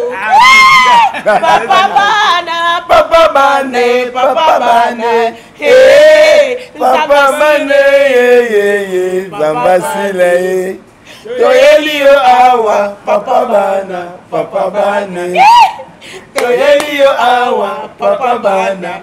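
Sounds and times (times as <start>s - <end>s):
group singing a chant: 1.5s - 15.6s, 16.3s - 19.0s.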